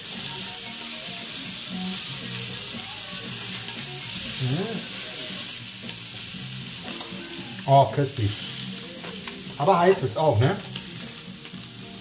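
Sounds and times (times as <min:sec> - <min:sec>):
sausages sizzling in a pan: 0:00.0 - 0:12.0.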